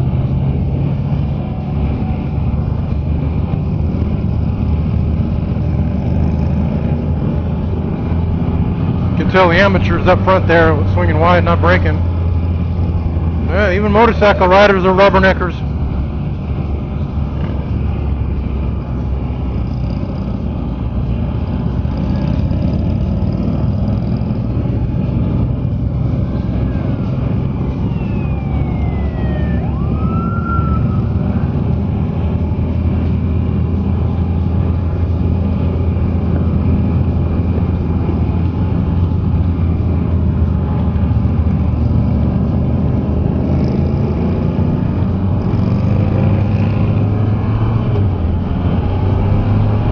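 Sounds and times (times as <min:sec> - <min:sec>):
motorcycle engine drone: 0:00.0 - 0:49.9
road and wind noise: 0:00.0 - 0:49.9.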